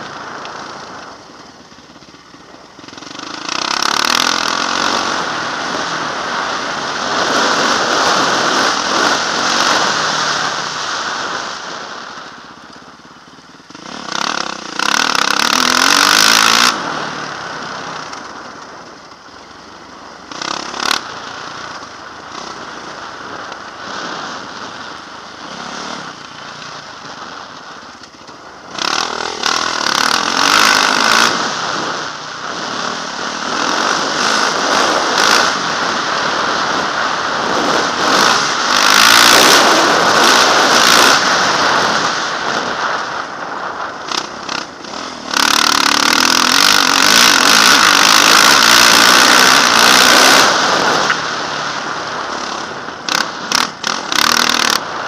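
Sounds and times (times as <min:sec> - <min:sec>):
dirt bike engine revving: 0:00.0 - 0:55.0
rushing wind noise: 0:00.0 - 0:55.0.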